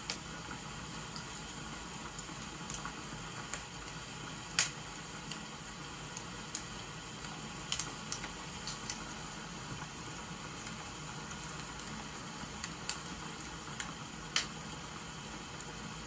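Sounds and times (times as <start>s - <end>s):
rain hissing: 0.0s - 16.0s
wood fire crackling and popping: 0.0s - 16.0s.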